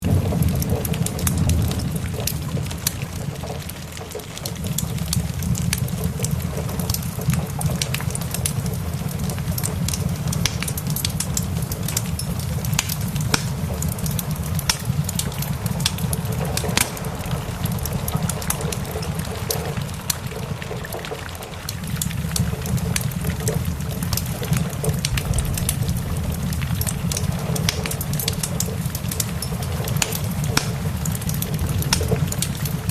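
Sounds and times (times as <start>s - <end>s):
steady rain: 0.0s - 32.9s
thunder rumbling: 0.0s - 32.9s
wood fire crackling and popping: 0.0s - 32.9s.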